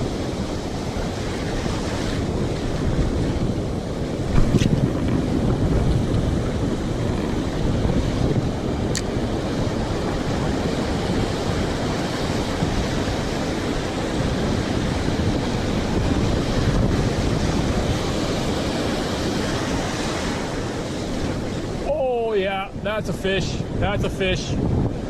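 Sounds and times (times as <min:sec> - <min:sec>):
ocean surf rushing: 0:00.0 - 0:25.0
wind buffeting microphone: 0:00.0 - 0:25.0.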